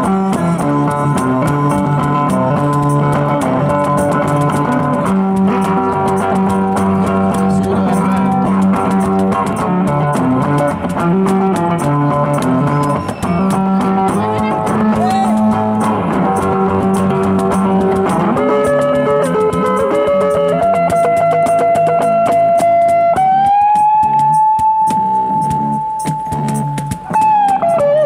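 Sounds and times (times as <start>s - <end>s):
electric bass: 0.0s - 28.0s
electric guitar: 0.0s - 28.0s
sharp percussive taps: 0.0s - 28.0s.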